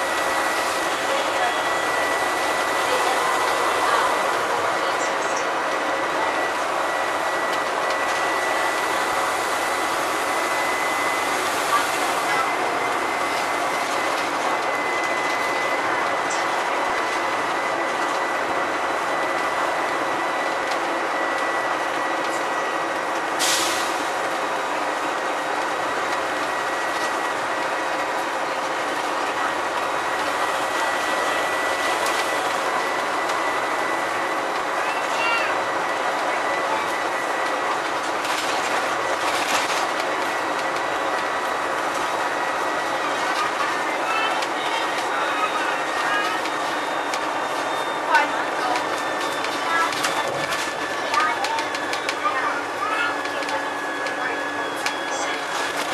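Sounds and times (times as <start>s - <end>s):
bus engine: 0.0s - 55.9s
road noise: 0.0s - 55.9s.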